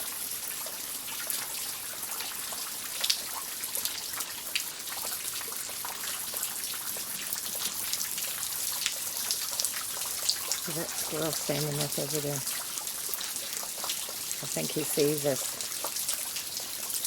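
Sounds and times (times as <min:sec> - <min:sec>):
raindrops ticking on surfaces: 0:00.0 - 0:17.0
steady rain falling: 0:00.0 - 0:17.0.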